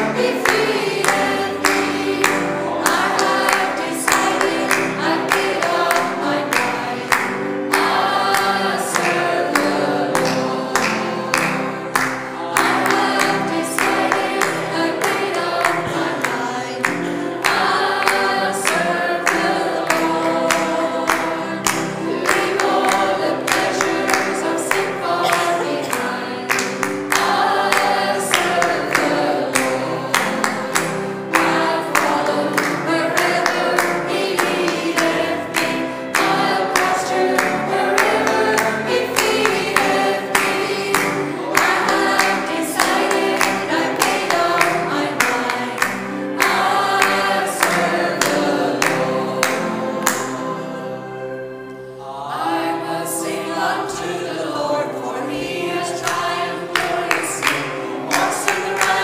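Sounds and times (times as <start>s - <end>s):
hand-clapping on the beat: 0.0s - 50.5s, 56.0s - 59.0s
congregation singing a gospel hymn: 0.0s - 59.0s.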